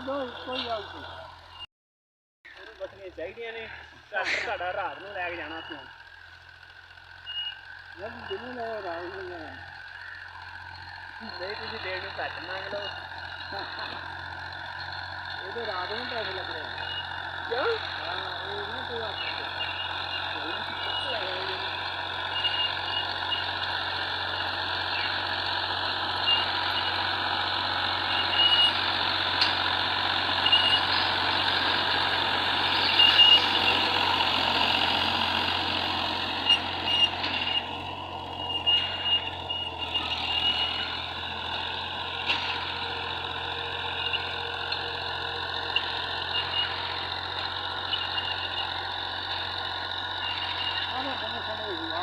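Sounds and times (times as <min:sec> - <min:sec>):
tractor engine running: 0:00.0 - 0:01.7, 0:02.4 - 0:52.0.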